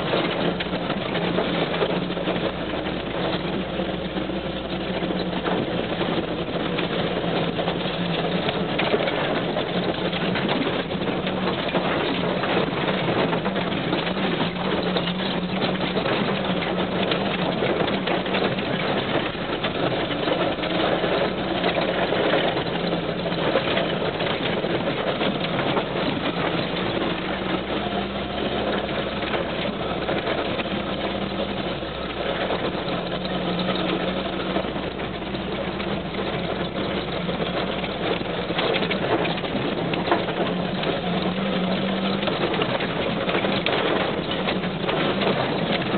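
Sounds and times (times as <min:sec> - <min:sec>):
vehicle body rattling: 0:00.0 - 0:45.9
vehicle engine droning: 0:00.0 - 0:45.9.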